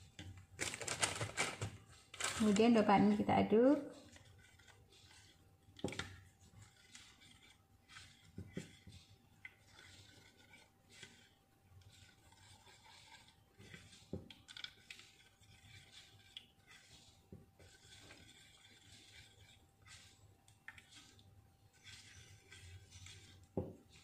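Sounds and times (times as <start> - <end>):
spoon scraping a bowl: 4.0 - 24.0.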